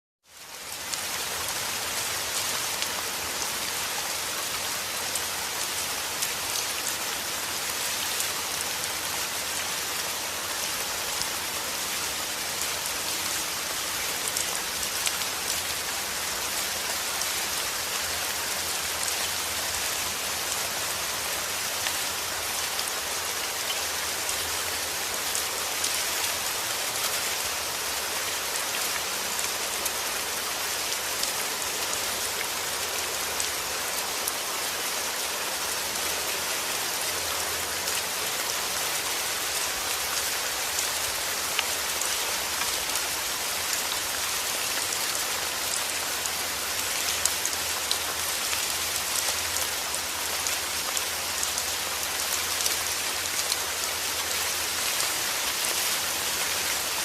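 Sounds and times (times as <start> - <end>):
steady rain pattering: 0.2 - 57.0.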